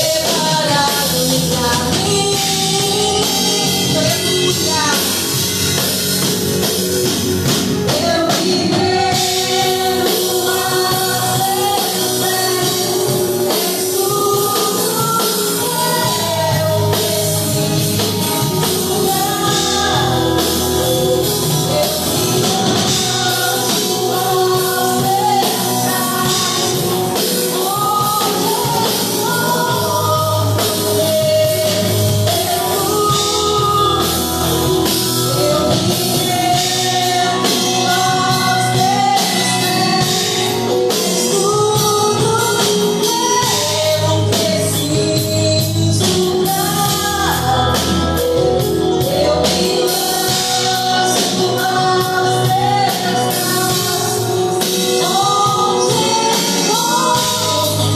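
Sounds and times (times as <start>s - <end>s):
band playing: 0.0s - 57.9s
gospel singing: 0.0s - 57.9s.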